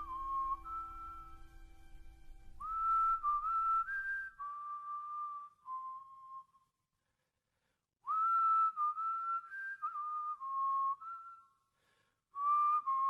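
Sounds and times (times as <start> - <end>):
person whistling a melody: 0.0 - 6.8, 8.0 - 13.0.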